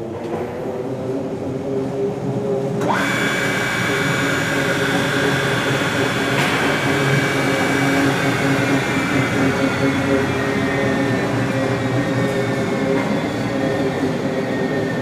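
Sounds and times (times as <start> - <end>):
grinder motor hum and whine: 0.0 - 15.0.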